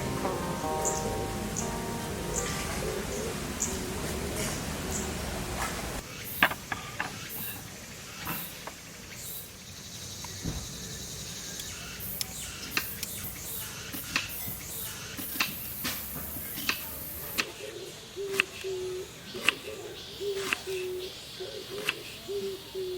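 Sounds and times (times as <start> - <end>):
faint steady hiss: 0.0 - 20.2.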